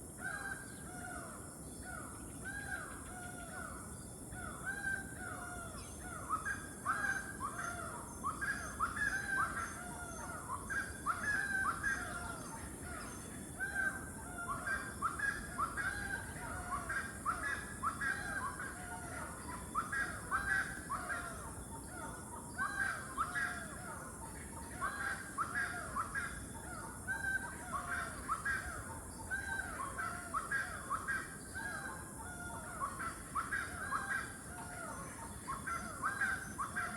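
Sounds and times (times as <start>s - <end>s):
birds calling: 4.5s - 36.9s.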